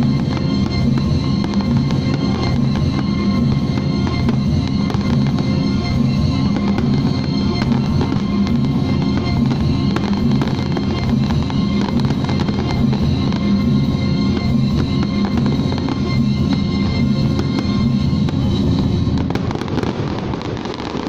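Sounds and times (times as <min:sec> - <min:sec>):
steady low rumble: 0:00.0 - 0:20.6
fireworks shells bursting: 0:00.0 - 0:21.0.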